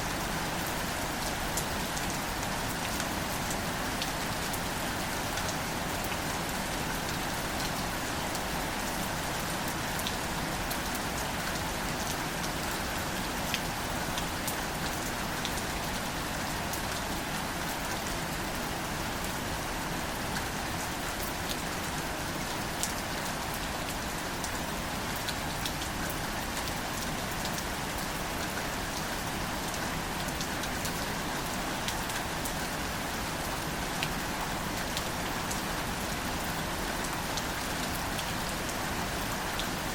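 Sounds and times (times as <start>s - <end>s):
gentle rain on leaves: 0.0s - 39.9s.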